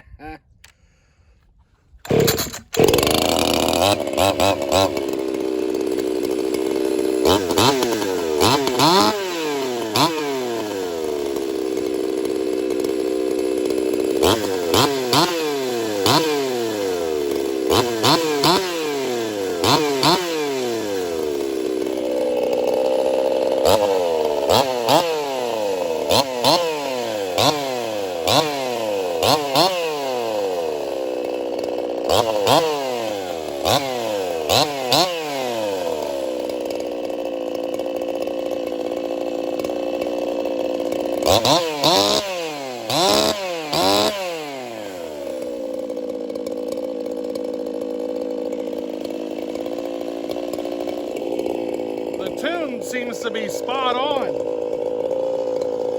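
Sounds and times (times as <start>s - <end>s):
chainsaw revving and idling: 2.0s - 55.9s.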